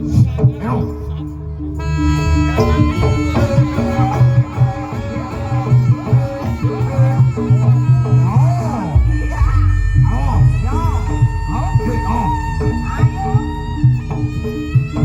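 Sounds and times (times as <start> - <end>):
ringing metal tones: 0.0 - 15.0.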